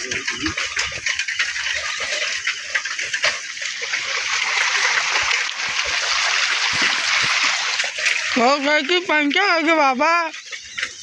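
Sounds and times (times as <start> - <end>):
bicycle splashing through puddles: 0.0 - 11.0.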